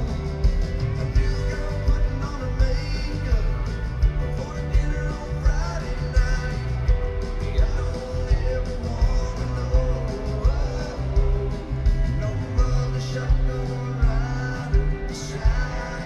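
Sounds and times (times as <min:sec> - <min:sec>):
live country-rock band: 0:00.0 - 0:16.0
male lead vocal: 0:00.0 - 0:16.0
steady drum beat: 0:00.0 - 0:16.0.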